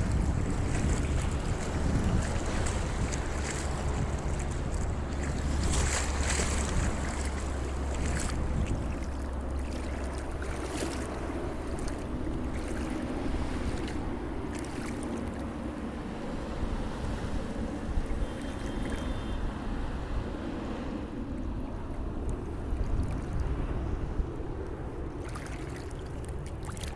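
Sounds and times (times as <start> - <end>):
sea waves washing: 0.0 - 26.9
wind buffeting microphone: 0.0 - 26.9.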